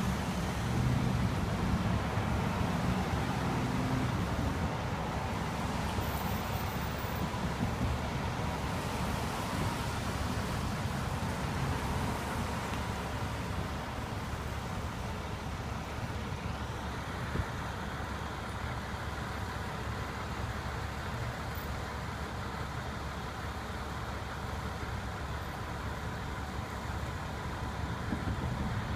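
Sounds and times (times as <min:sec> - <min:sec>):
motor vehicle rumble: 0:00.0 - 0:28.9.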